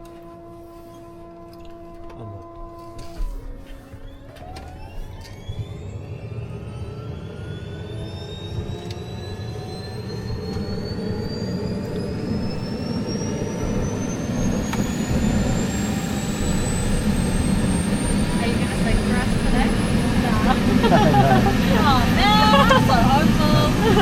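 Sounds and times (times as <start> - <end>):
helicopter engine and rotor noise: 1.5 - 24.0
helicopter turbine whine: 2.3 - 24.0.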